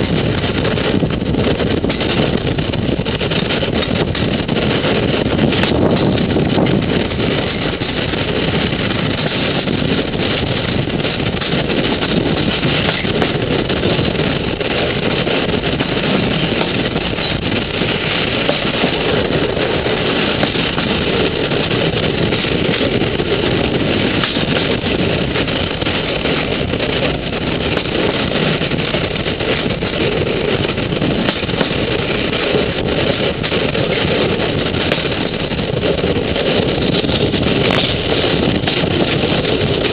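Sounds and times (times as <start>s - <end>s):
moving vehicle running noise: 0.0s - 39.9s.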